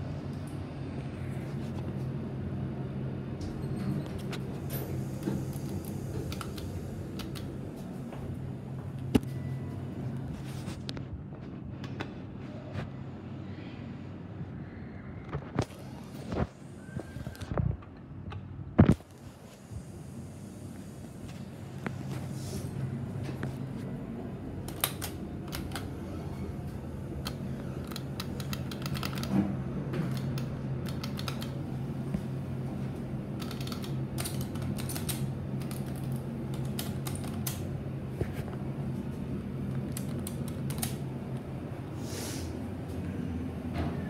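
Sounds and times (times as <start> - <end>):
elevator car humming: 0.0 - 10.9, 19.2 - 44.0.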